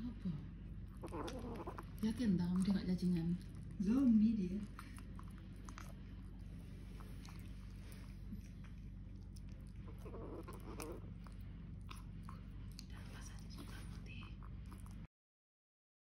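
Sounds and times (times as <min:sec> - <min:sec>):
steady low hum: 0:00.0 - 0:15.1
kitten chewing and smacking: 0:00.4 - 0:15.1.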